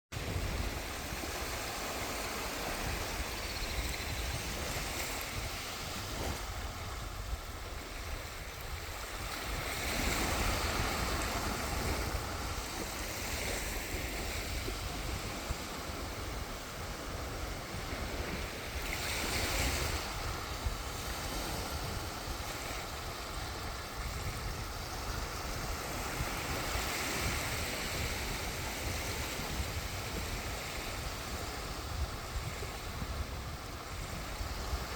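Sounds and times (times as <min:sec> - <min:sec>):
sea waves breaking on shore: 0:00.2 - 0:34.9.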